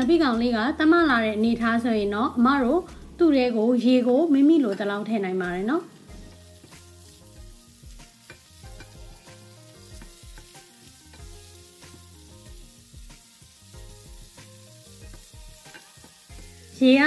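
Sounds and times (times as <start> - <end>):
soft background music: 0.0 - 17.0
fish sizzling in oil: 2.2 - 17.0.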